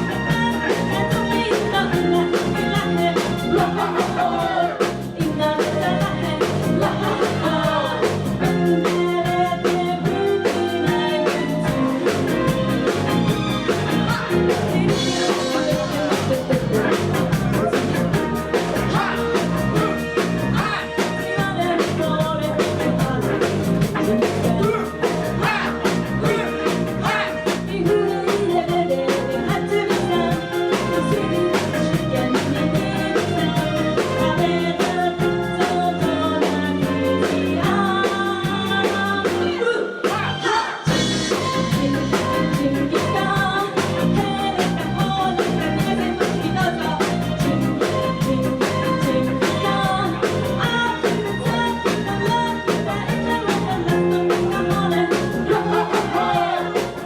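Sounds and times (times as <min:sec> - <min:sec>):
live band playing: 0:00.0 - 0:57.0
person singing: 0:00.0 - 0:57.0.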